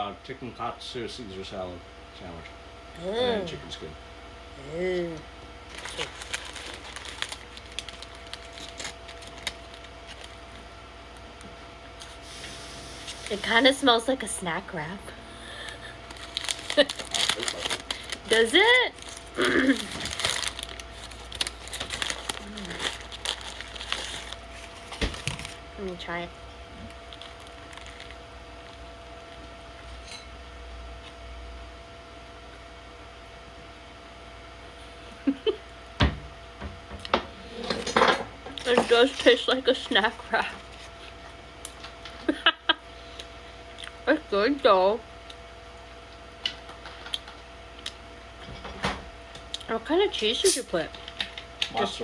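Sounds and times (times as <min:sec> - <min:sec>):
low room hum: 0:00.0 - 0:52.0.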